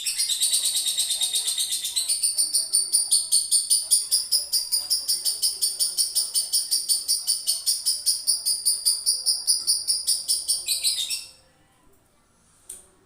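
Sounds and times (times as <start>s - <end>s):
bird chattering trill: 0.0s - 11.3s.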